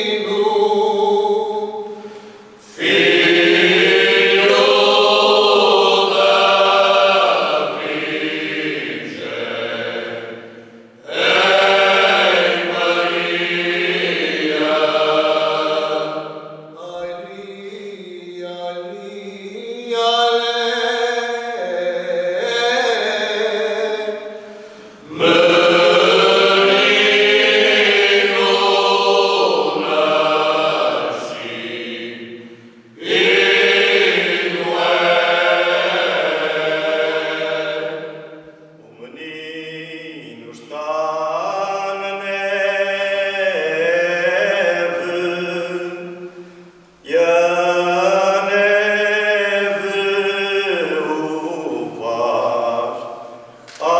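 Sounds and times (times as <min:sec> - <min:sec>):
male choir singing unaccompanied: 0:00.0 - 0:02.0, 0:02.6 - 0:46.4, 0:47.0 - 0:53.9.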